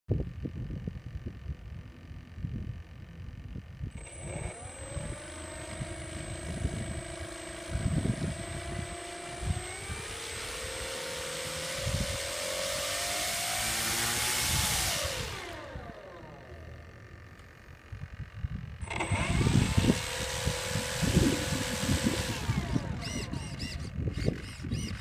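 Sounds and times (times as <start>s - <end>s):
model plane motor whine: 0.1s - 25.0s.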